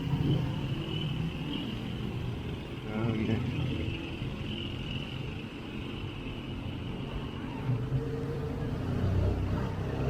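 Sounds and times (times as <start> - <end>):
vehicles rumbling: 0.0 - 10.0.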